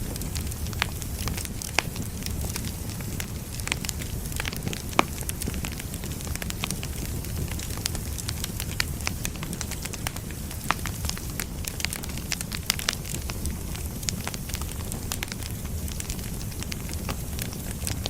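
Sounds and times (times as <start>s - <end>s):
logs crackling and popping: 0.0s - 18.0s
low rumble of flame: 0.0s - 18.0s.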